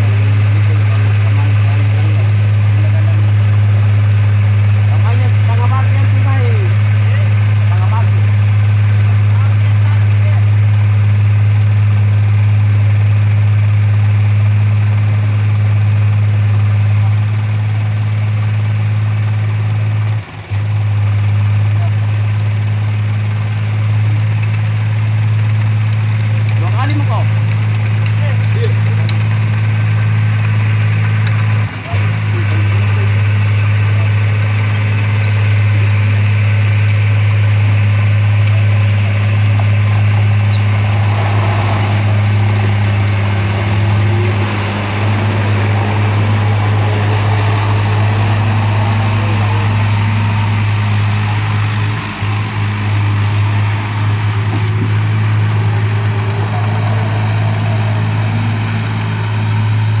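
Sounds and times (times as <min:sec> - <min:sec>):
diesel truck engine idling: 0:00.0 - 1:00.0.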